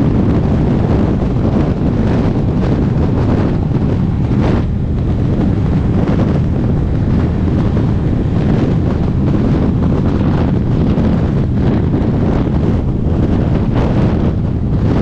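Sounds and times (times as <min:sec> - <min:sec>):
motorcycle engine drone: 0:00.0 - 0:15.0
wind rushing over microphone: 0:00.0 - 0:15.0.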